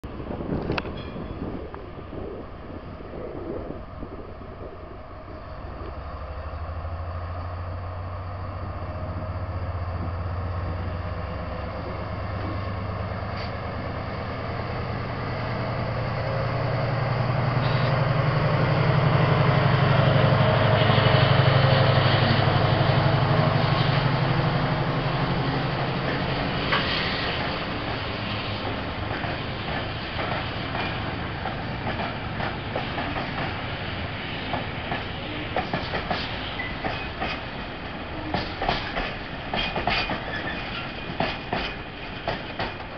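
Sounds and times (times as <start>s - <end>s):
diesel locomotive engine: 0.0s - 42.9s
wagons rumbling on rails: 0.0s - 42.9s.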